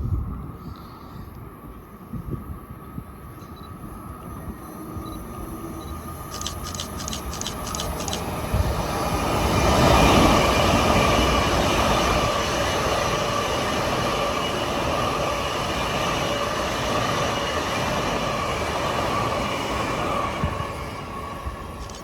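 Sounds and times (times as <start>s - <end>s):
train passing: 0.0s - 22.0s.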